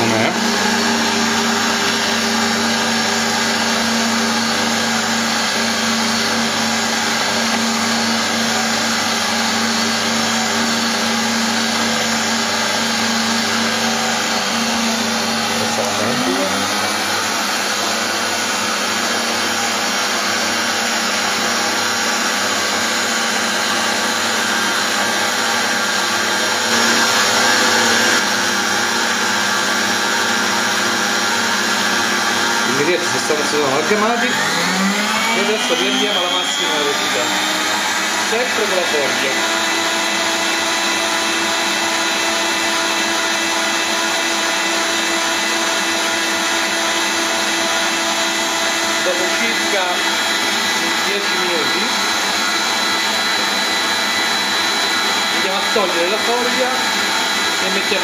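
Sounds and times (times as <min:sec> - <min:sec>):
stand mixer running: 0:00.0 - 0:58.0.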